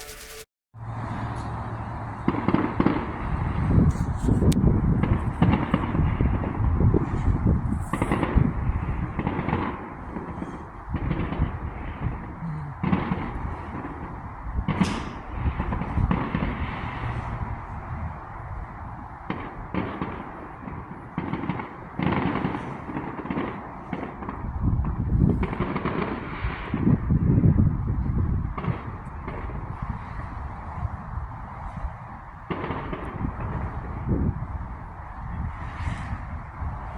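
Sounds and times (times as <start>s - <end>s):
fireworks booms and bangs: 2.2s - 3.8s, 4.6s - 31.0s, 31.6s - 36.9s.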